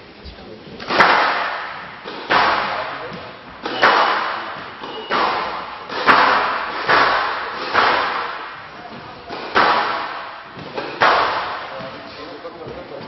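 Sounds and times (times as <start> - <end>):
squash ball hits echoing: 0.8 - 13.0.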